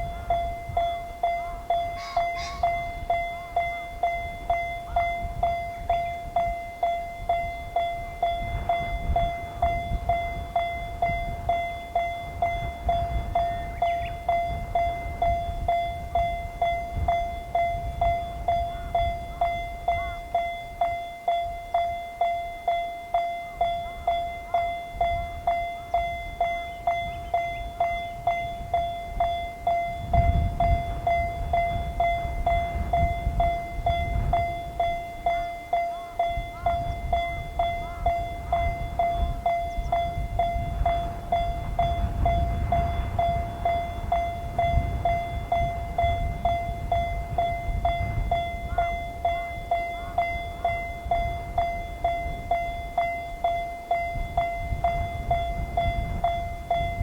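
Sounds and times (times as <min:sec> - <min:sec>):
level crossing bell ringing: 0:00.0 - 0:57.0.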